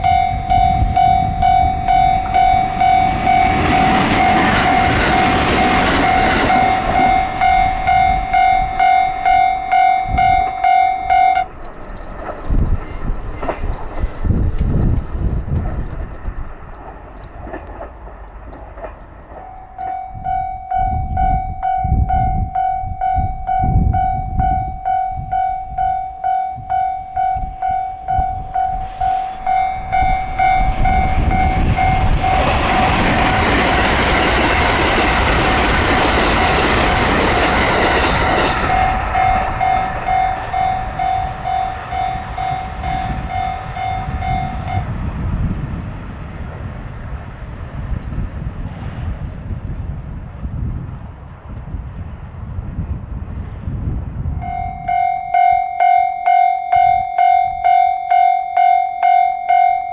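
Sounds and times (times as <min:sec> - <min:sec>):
level-crossing warning bell: 0:00.0 - 0:14.4, 0:15.6 - 0:45.8, 0:54.3 - 0:59.9
train passing: 0:00.0 - 0:59.9.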